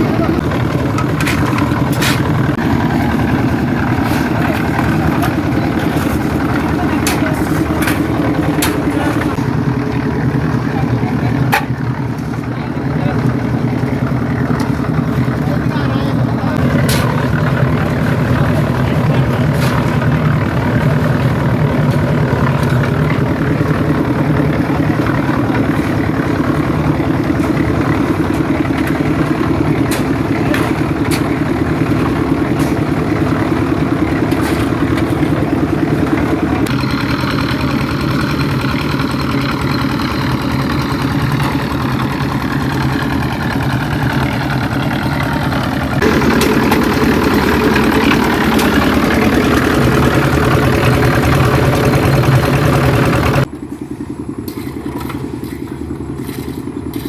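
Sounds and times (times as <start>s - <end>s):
machinery engine running: 0.0s - 57.0s.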